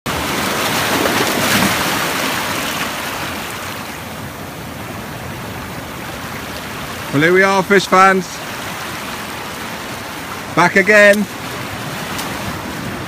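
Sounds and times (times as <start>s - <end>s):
waves breaking on rocky shore: 0.1s - 13.0s.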